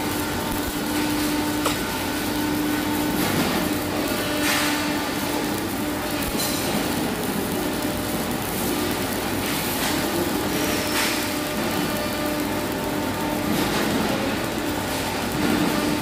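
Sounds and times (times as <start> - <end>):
welding arc crackling and hissing: 0.0 - 16.0.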